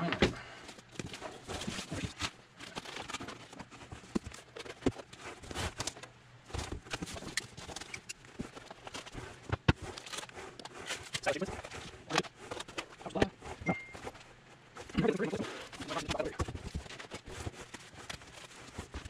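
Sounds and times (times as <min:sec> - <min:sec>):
cardboard and foam rustling: 0:00.0 - 0:19.0.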